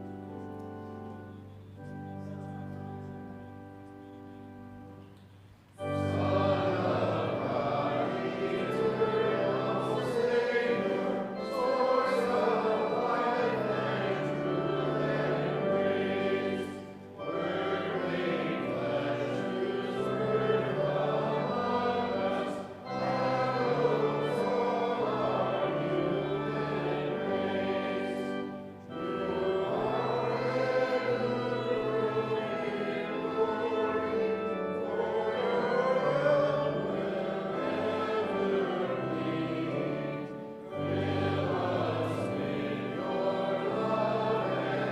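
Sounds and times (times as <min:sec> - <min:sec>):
congregation singing a hymn: 0:00.0 - 0:44.9
instrumental accompaniment: 0:00.0 - 0:44.9.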